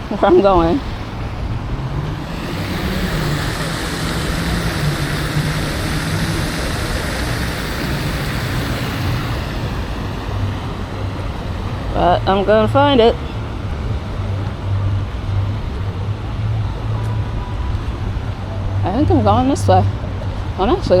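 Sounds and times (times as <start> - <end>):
vehicle passing by: 0.0 - 21.0.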